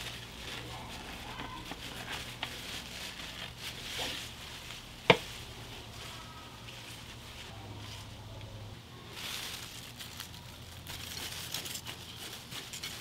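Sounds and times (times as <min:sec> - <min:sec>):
rustling of leaves and soil: 0:00.0 - 0:13.0.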